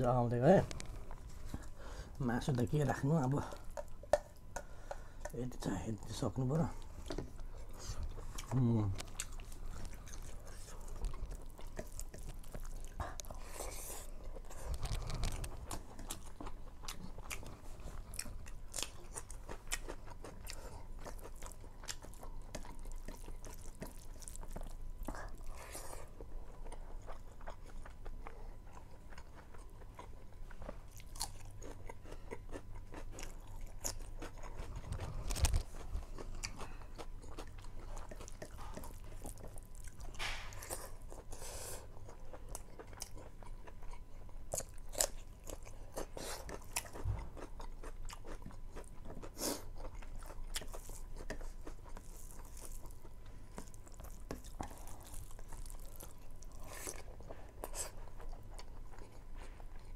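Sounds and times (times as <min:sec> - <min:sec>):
person chewing and crunching food: 0:00.0 - 0:59.9.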